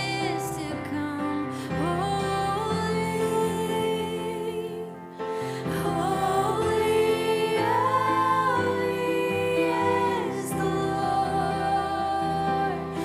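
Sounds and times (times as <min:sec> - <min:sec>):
slow worship music: 0:00.0 - 0:13.0.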